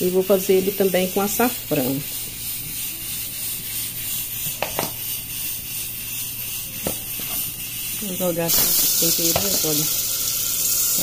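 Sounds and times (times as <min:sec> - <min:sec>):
lard sizzling in a pot: 0:00.0 - 0:11.0
seasoning pouring: 0:00.2 - 0:11.0.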